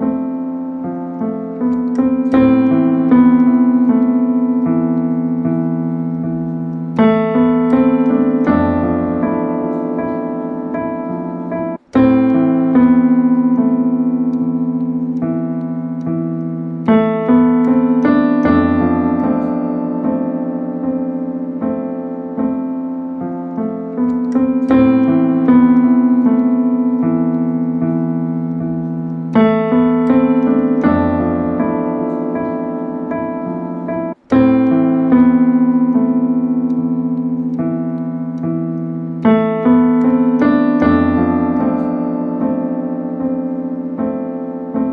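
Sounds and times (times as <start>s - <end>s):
slow piano chords: 0.0s - 44.9s.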